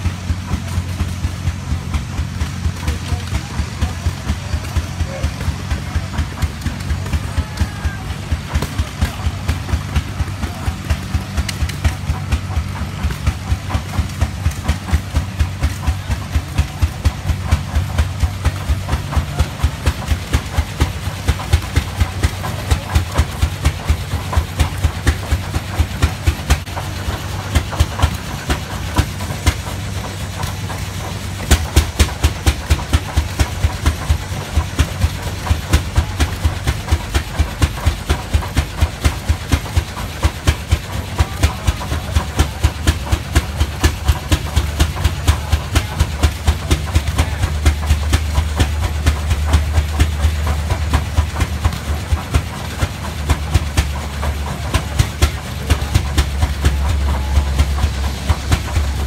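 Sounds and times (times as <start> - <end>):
tractor engines idling: 0.0 - 59.0.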